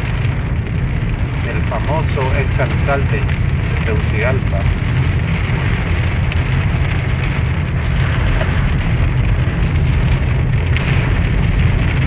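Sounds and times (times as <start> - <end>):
car rumbling on wet road: 0.0 - 12.0
heavy rain drumming on car roof: 0.0 - 12.0.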